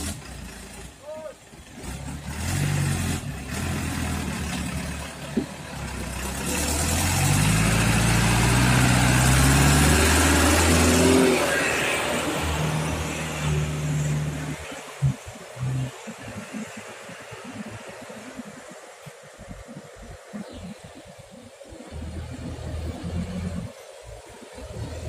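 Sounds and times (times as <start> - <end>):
diesel truck engine: 0.0 - 25.0.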